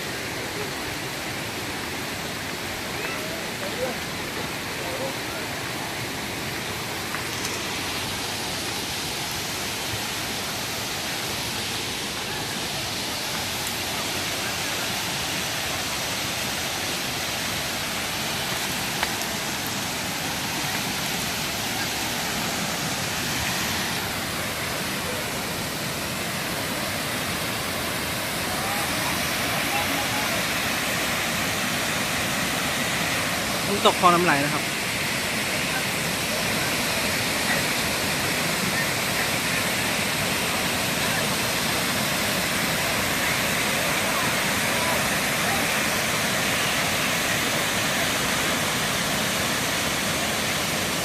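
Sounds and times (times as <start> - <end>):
waterfall rushing over rock: 0.0 - 51.0.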